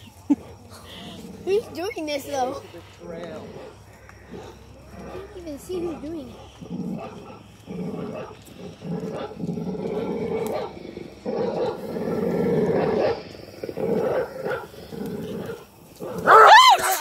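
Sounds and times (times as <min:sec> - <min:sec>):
low rasping growls: 0:00.3 - 0:17.0.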